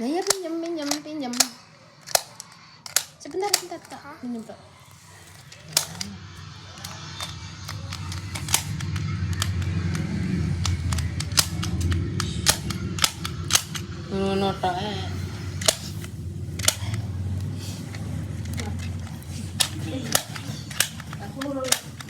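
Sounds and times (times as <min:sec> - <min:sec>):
plastic toy clicks: 0:00.0 - 0:04.4, 0:05.2 - 0:13.9, 0:15.5 - 0:22.0
low hum: 0:00.0 - 0:22.0.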